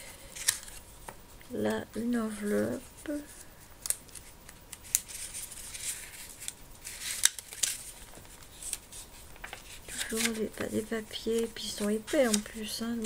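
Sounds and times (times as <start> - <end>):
paper rustling and crackling: 0.1 - 1.2, 2.3 - 13.0.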